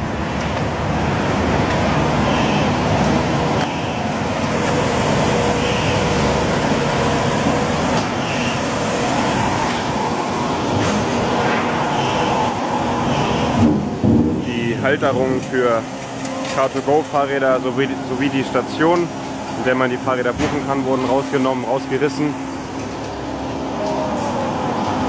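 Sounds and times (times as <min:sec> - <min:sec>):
heavy vehicle engines running: 0:00.0 - 0:25.0.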